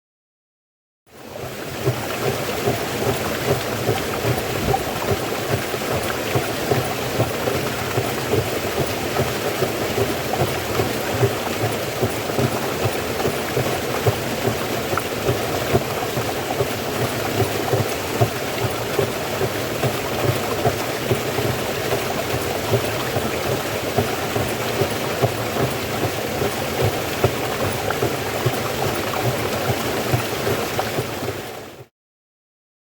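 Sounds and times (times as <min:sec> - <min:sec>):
stream water flowing and splashing: 0:01.1 - 0:31.9.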